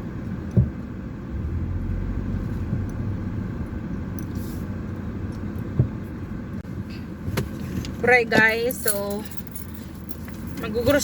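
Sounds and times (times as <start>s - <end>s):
car low rumble: 0.0s - 11.0s.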